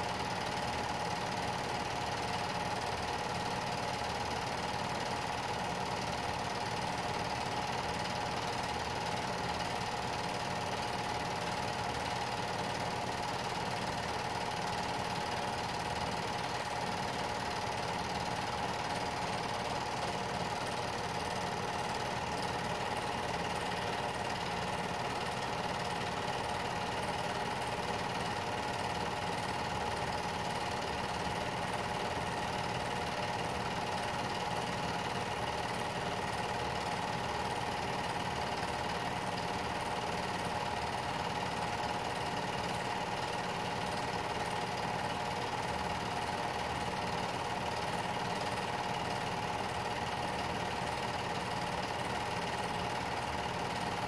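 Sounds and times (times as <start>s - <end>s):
film projector whirring and clattering: 0.0s - 54.0s.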